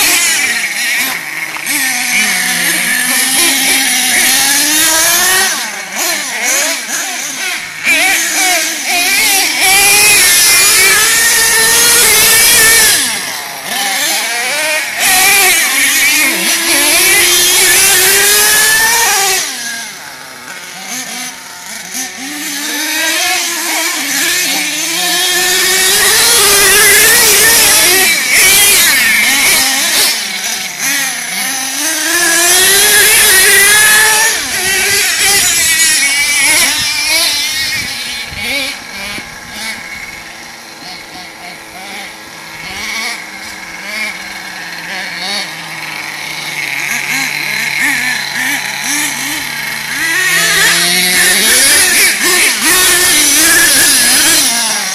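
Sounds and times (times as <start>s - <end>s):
small nitro engine revving: 0.0s - 54.9s.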